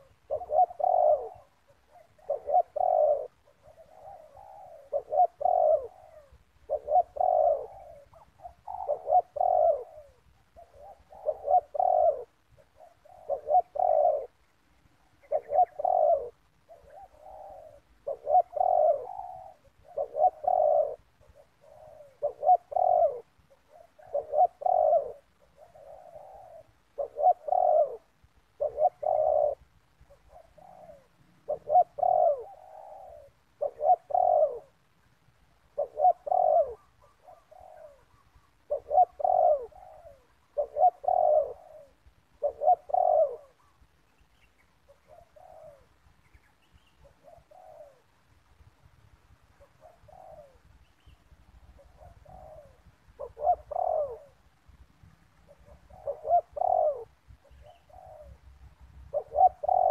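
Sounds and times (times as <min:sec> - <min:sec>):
doves cooing: 0:00.0 - 0:48.4, 0:49.5 - 0:59.9.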